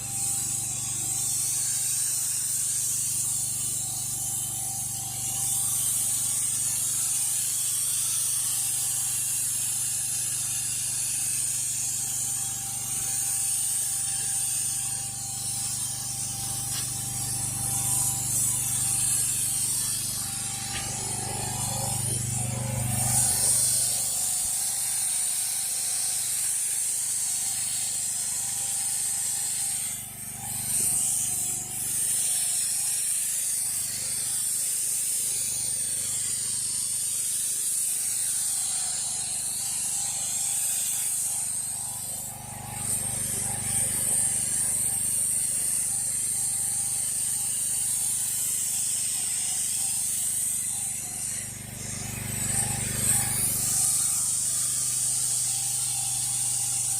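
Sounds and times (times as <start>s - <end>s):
pressure washer motor hum: 0.0s - 56.9s
pressure washer spraying concrete: 0.0s - 56.9s.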